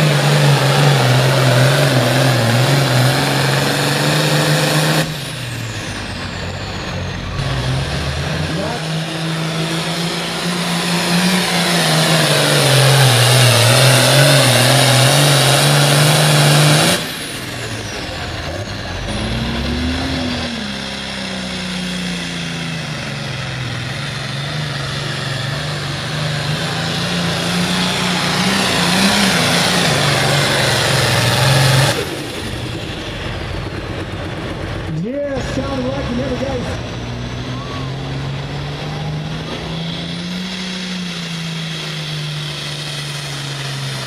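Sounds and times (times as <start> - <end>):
diesel engine under full load: 0.0 - 44.0.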